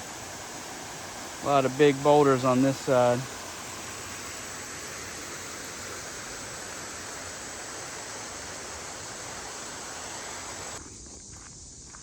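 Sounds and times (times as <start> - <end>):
water rushing over boulders: 0.0 - 10.8.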